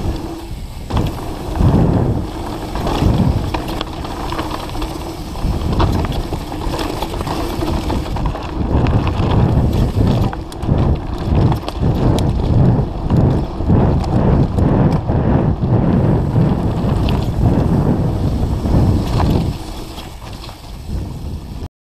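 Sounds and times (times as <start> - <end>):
bike knocking and rattling: 0.0 - 21.7
bike tyres rumbling on dirt: 0.0 - 21.7
wind on microphone: 0.0 - 21.7.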